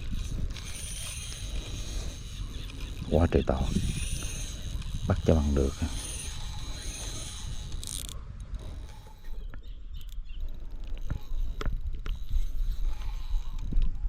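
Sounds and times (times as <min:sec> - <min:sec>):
fishing reel ratcheting: 0:00.0 - 0:09.3, 0:10.0 - 0:14.0.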